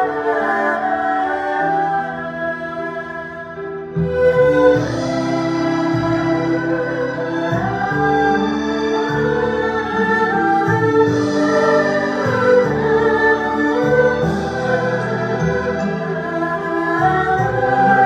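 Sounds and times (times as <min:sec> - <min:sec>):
bowed string ensemble melody: 0:00.0 - 0:18.0.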